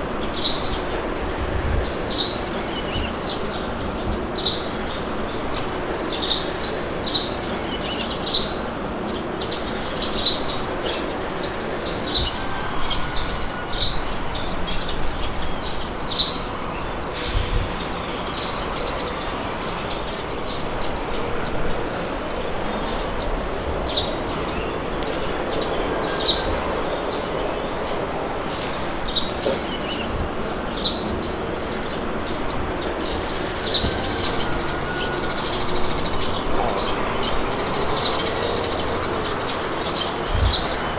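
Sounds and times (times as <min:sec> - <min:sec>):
birds chirping: 0:00.0 - 0:40.9
wind blowing: 0:00.0 - 0:40.9.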